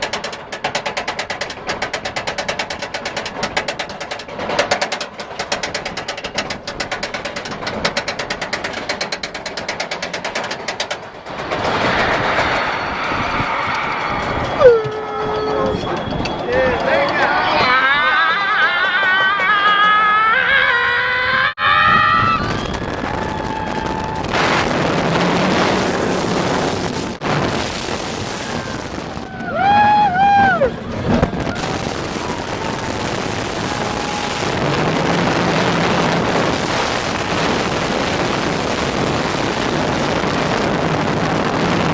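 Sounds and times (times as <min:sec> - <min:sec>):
roller coaster chain clattering: 0:00.0 - 0:21.0, 0:28.4 - 0:41.9
rush of wind: 0:00.0 - 0:41.9.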